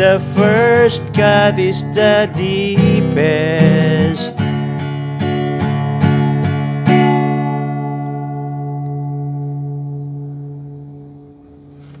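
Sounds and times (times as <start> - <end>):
acoustic guitar strums: 0.0 - 12.0
guitar chord ringing out: 0.0 - 12.0.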